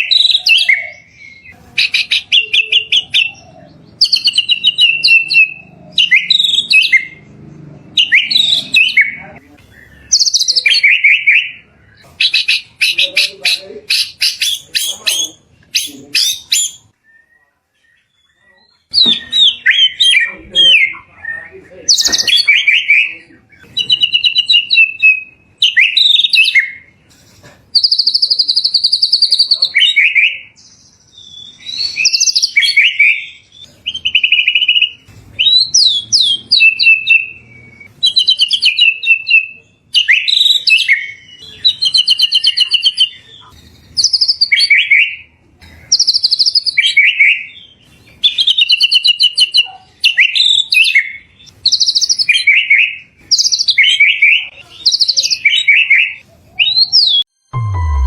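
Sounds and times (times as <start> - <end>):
songbird singing whistled trills: 0.0 - 7.2, 13.9 - 26.8, 27.8 - 45.3, 46.0 - 58.0.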